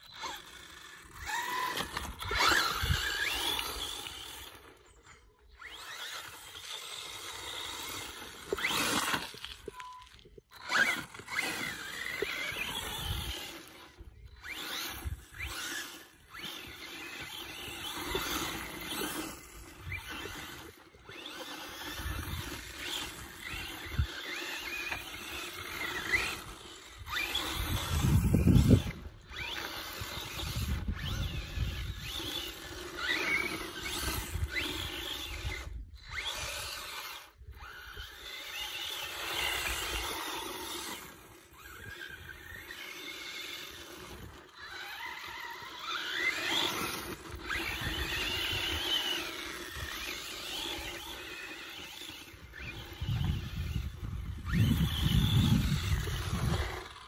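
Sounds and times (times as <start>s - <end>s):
tyres scrabbling on dirt: 0.0s - 4.9s, 5.6s - 57.0s
electric motor whining: 0.0s - 57.0s.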